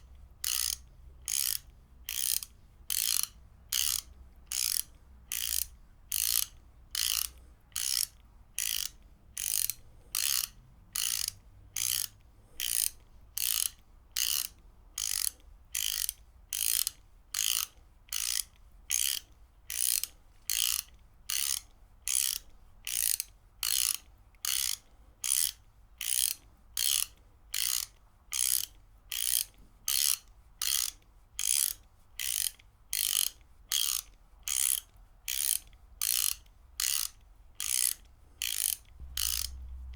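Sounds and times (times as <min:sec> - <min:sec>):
ratchet wrench clicking: 0:00.4 - 0:39.9.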